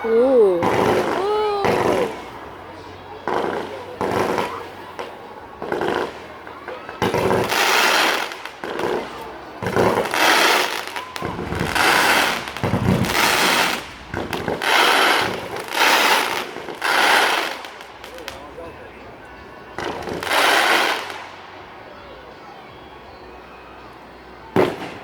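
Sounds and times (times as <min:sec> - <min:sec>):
fireworks bursting: 0:00.0 - 0:18.7, 0:19.6 - 0:21.8, 0:24.5 - 0:25.0.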